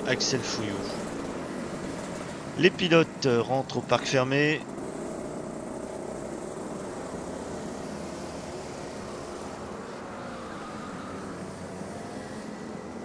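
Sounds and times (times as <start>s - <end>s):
distant kart engines droning: 0.0s - 13.0s.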